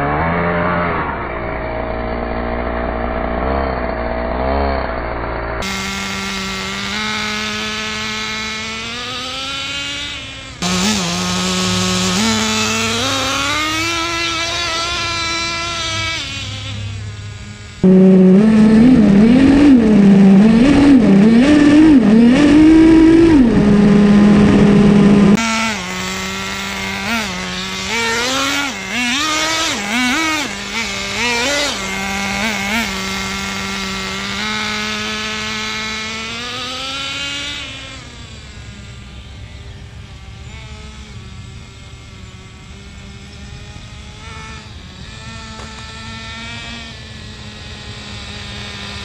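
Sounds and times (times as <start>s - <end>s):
nitro engine revving: 0.0s - 49.0s.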